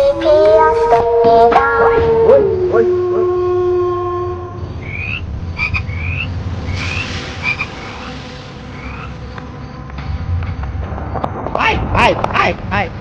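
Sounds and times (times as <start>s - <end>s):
steady low hum: 0.0s - 13.0s
frogs chirping: 1.7s - 12.5s.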